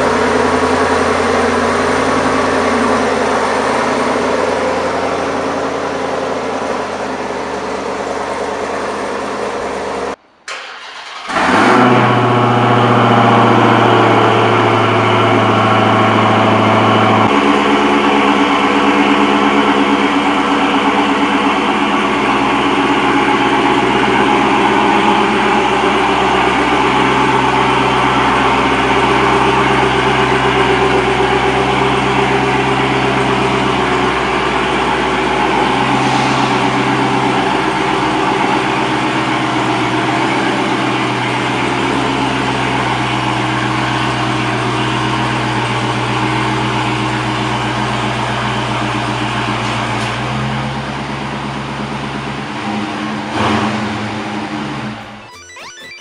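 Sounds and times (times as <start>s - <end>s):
car engine idling: 0.0s - 49.6s.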